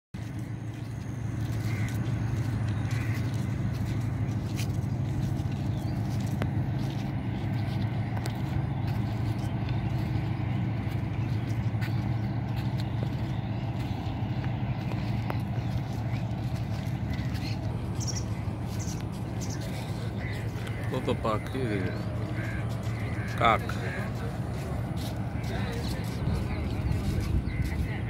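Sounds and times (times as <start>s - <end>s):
engine droning: 0.2s - 28.0s.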